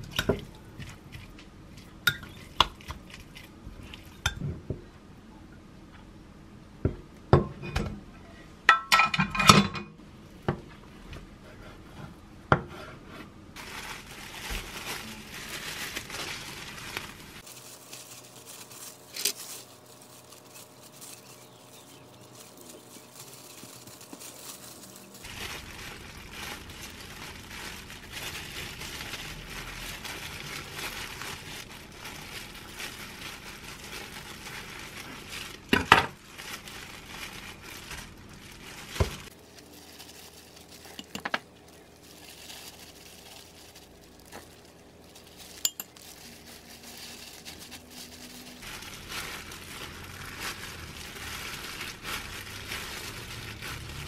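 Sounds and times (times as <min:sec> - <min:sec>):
plastic gloves crinkling: 0:00.0 - 0:04.4, 0:13.5 - 0:54.0.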